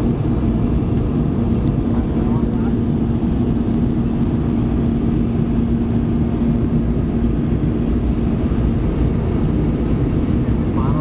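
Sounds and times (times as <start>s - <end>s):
airliner cabin engine rush: 0.0s - 11.0s
steady low hum: 0.0s - 11.0s.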